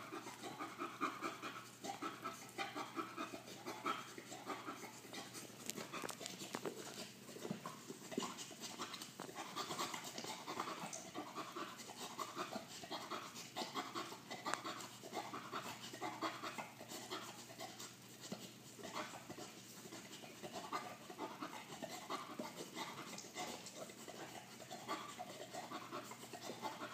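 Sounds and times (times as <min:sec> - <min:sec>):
dog licking a ball: 0:00.0 - 0:26.9
dog panting: 0:00.0 - 0:26.9.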